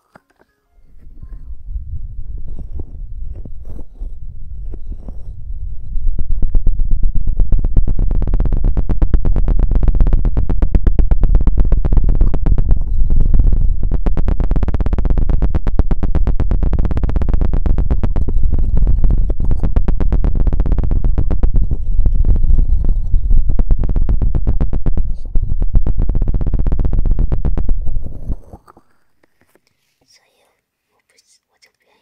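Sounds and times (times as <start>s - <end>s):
rapid scratching and tapping on microphone: 0.9s - 30.4s.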